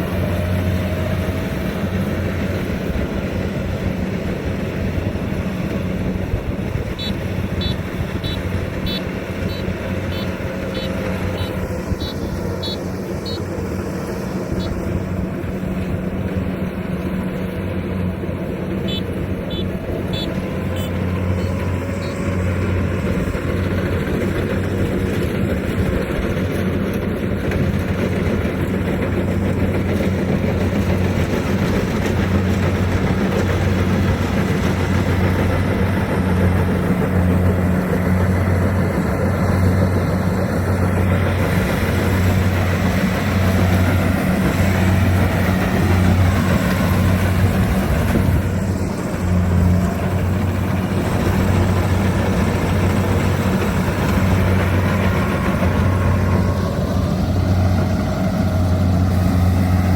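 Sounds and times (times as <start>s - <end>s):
harvester engine running: 0.0s - 59.9s.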